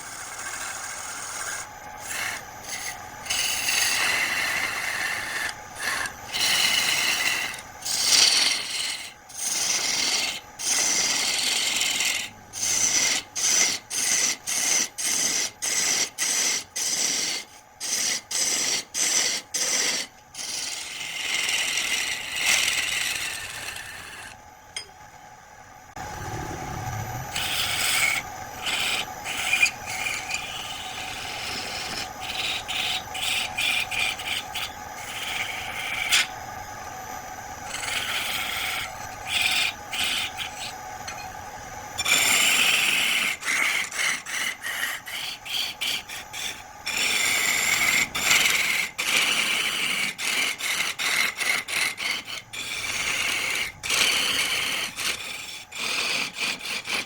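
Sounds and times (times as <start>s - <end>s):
tool rasping against wood: 0.0s - 24.4s, 27.4s - 36.3s, 42.0s - 57.0s.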